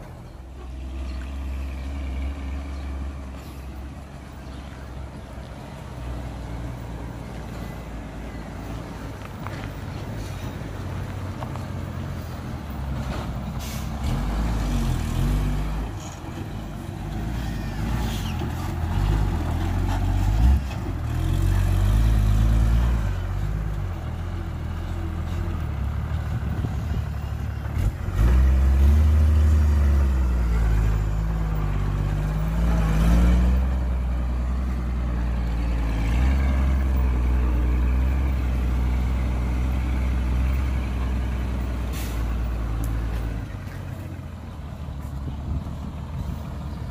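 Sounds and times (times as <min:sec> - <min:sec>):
diesel truck engine revving: 0:00.0 - 0:46.9.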